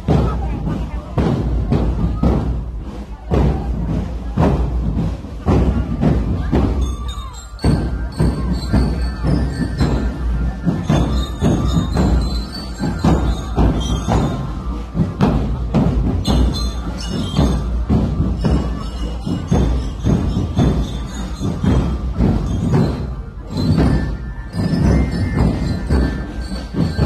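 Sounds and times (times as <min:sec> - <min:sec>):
drums beating march rhythm: 0:00.0 - 0:27.0
bell-like melody notes: 0:04.9 - 0:27.0.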